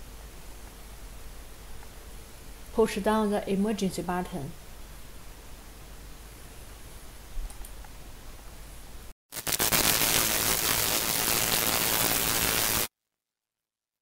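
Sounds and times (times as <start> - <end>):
loud static hiss: 0.0 - 12.9.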